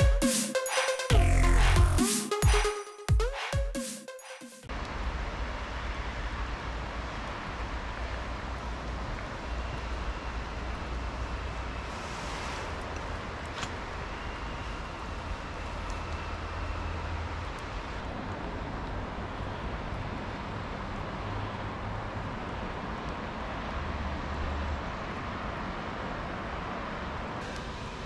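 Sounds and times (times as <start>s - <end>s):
distant traffic rumble: 4.8s - 27.4s.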